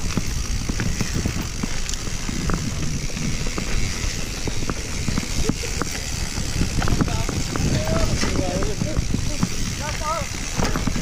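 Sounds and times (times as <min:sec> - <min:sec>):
mountain bike rattling: 0:00.0 - 0:11.0.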